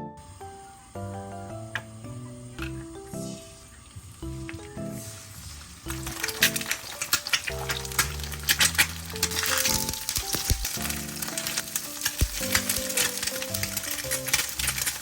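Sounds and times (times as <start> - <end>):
food sizzling in a pan: 0.2 - 15.0.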